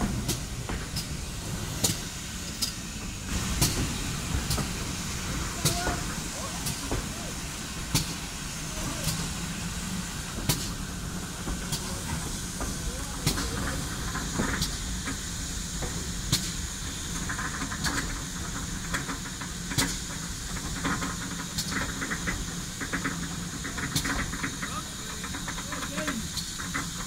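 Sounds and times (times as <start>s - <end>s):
steam hiss: 0.0s - 27.0s
steam train rumble: 0.0s - 27.0s.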